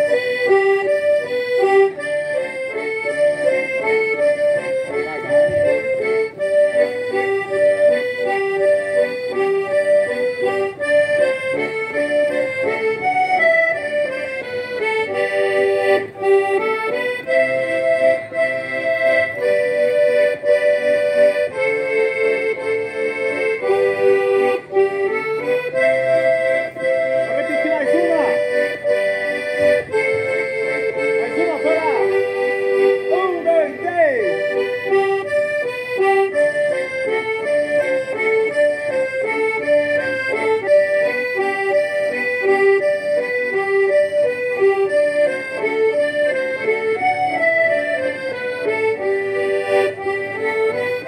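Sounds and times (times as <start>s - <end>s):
button accordion playing: 0.0s - 51.0s.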